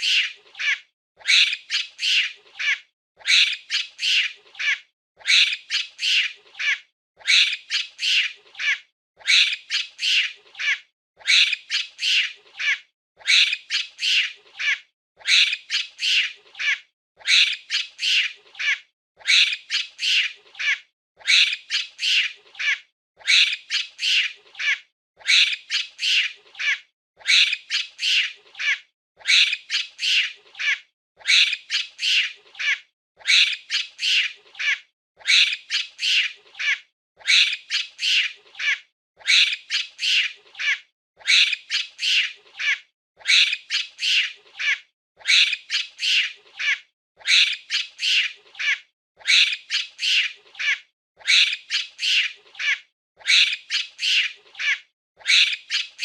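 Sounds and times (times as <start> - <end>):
monkey screeching: 0.0 - 56.0.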